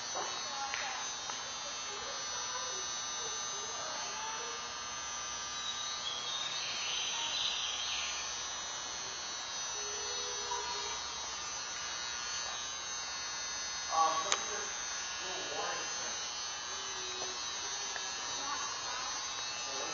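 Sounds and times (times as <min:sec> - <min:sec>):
electrical hum with high whine: 0:00.0 - 0:19.9.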